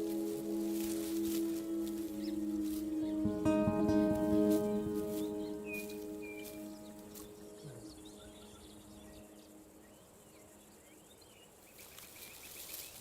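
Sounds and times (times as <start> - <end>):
music score: 0.0 - 10.8.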